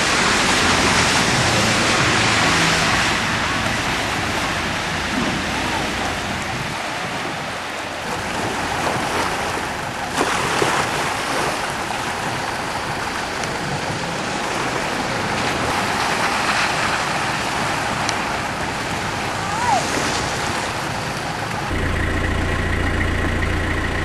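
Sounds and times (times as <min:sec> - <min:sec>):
wind on microphone: 0:00.0 - 0:22.0
waves breaking: 0:00.0 - 0:22.5.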